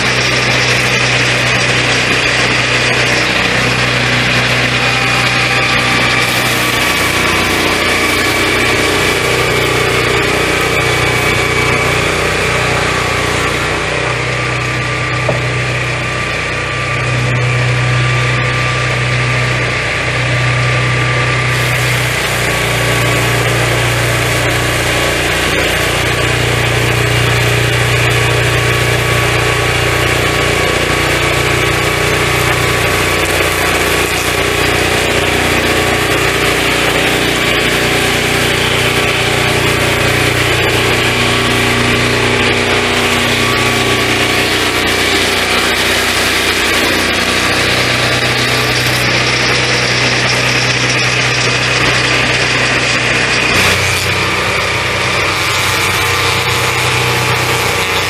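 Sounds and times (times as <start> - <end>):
sawmill petrol engine running: 0.0 - 58.0.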